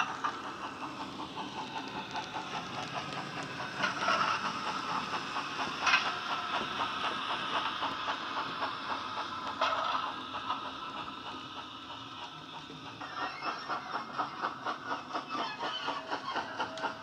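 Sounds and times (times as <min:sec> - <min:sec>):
model steam locomotive chuffs: 0:00.0 - 0:17.0.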